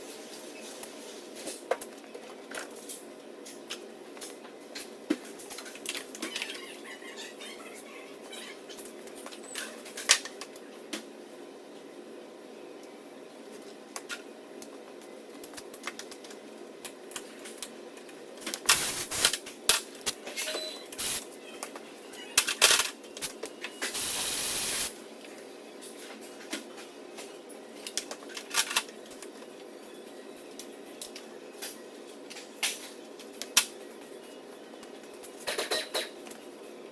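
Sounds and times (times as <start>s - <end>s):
steady shop hum: 0.0s - 36.9s.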